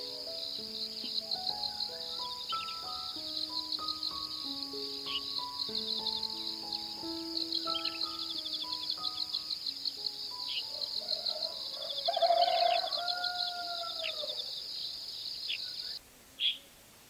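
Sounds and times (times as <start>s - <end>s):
insects trilling: 0.0s - 16.6s.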